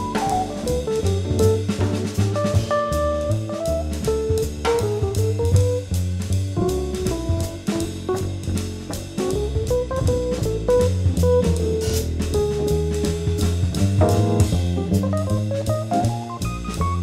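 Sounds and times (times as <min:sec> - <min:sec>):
jazz trio playing: 0:00.0 - 0:17.0.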